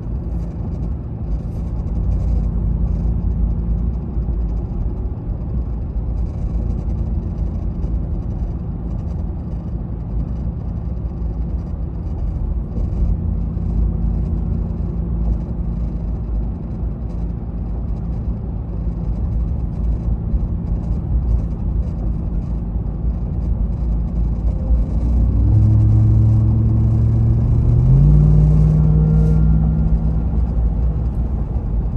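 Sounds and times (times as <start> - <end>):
pickup truck engine rumbling: 0.0 - 31.9.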